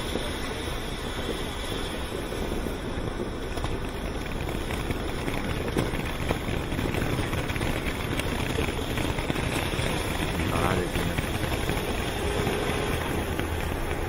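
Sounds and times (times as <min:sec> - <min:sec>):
firework fountain hissing: 0:00.0 - 0:14.0
sharp crackles: 0:00.0 - 0:14.0.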